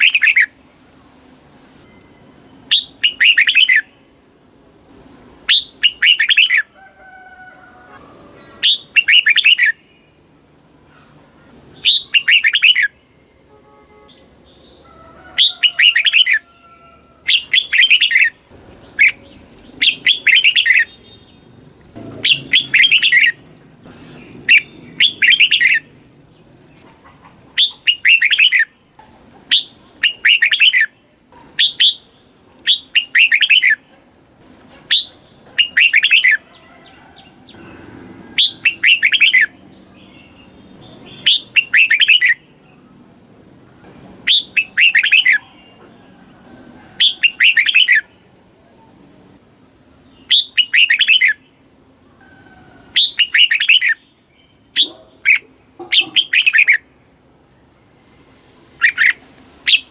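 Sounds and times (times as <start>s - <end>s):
bird singing warbled phrases: 0.0s - 0.6s, 1.9s - 4.1s, 5.4s - 6.8s, 8.3s - 14.8s, 15.4s - 16.4s, 17.2s - 34.0s, 34.8s - 36.6s, 37.5s - 45.9s, 47.0s - 48.9s, 49.5s - 52.0s, 52.9s - 57.0s, 58.7s - 59.9s.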